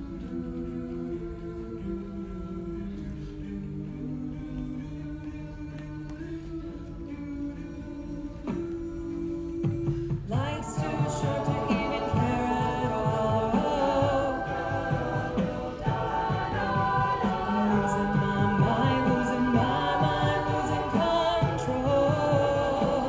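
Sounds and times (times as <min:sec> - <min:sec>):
vocal group singing harmony: 0:00.0 - 0:23.0.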